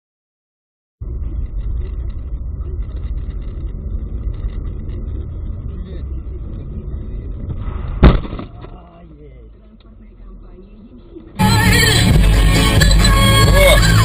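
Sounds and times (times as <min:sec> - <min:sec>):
car engine and road noise: 0:01.0 - 0:14.0.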